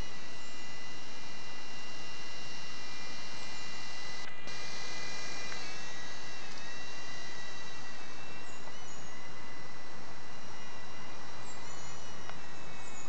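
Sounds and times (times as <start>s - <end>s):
steady hiss: 0.0s - 13.0s
toy helicopter motors whining: 0.0s - 13.0s.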